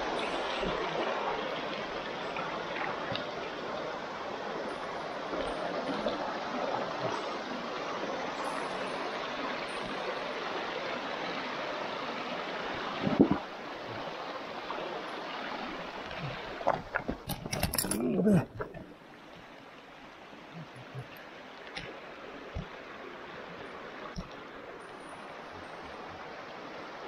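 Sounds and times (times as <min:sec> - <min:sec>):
stream running over rocks: 0:00.0 - 0:27.0.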